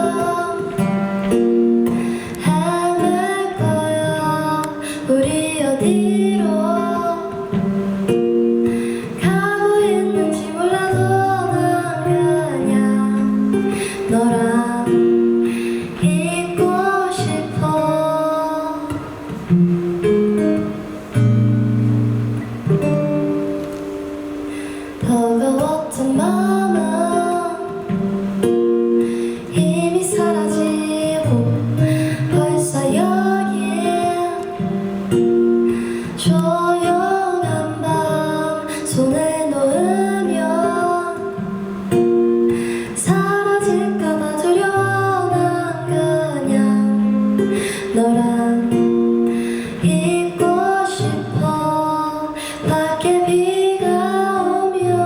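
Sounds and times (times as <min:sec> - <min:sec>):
woman singing: 0:00.0 - 0:19.7, 0:24.4 - 0:55.0
strummed acoustic guitar: 0:00.0 - 0:55.0.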